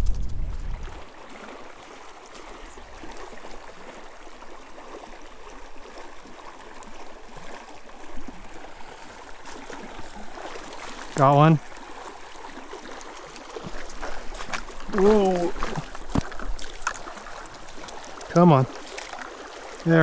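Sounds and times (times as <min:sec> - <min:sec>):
creek running over gravel: 0:00.0 - 0:20.0.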